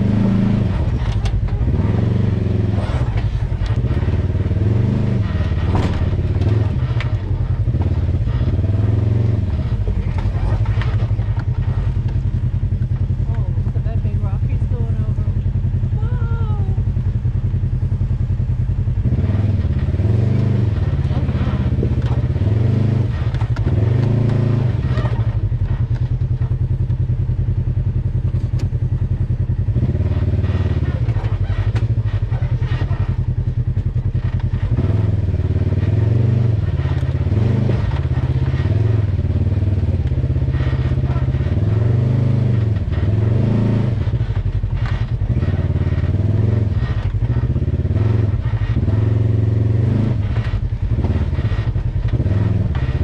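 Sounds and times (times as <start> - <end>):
vehicle clunking over rocks: 0.0 - 14.5, 19.2 - 27.3, 29.7 - 53.0
off-road vehicle engine revving: 0.0 - 53.0.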